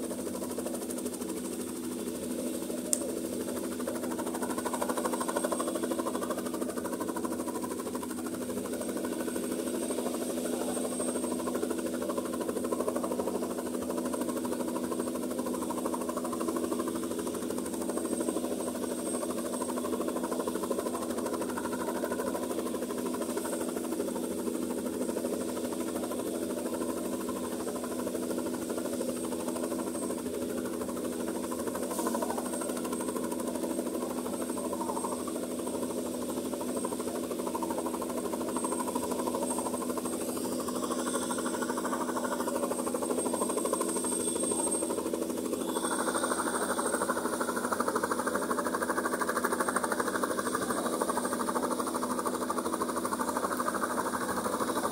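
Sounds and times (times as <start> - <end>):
helicopter engine and rotor drone: 0.0 - 54.9.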